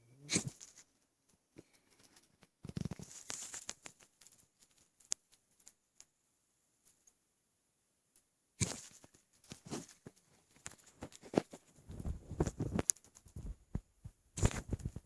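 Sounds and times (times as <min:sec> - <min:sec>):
stomach gurgles and clicks: 0:00.2 - 0:06.1, 0:08.6 - 0:15.0.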